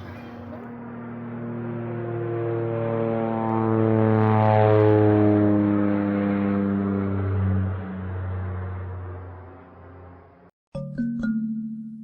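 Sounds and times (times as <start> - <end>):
engine droning: 0.0 - 10.5.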